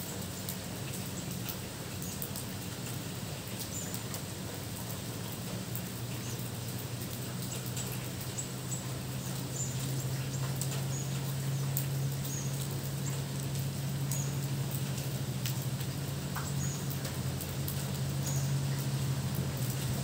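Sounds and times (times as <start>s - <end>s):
close raindrops ticking: 0.0s - 20.0s
steady rain falling: 0.0s - 20.0s.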